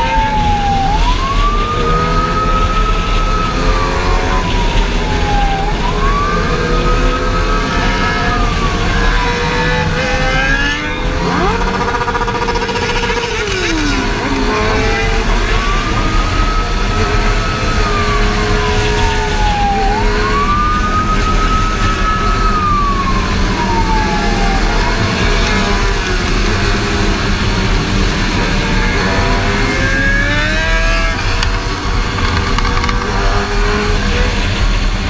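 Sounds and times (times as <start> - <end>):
second siren: 0.0 - 34.2
motorcycle engines rumbling: 0.0 - 35.0
police siren wailing: 0.0 - 35.0.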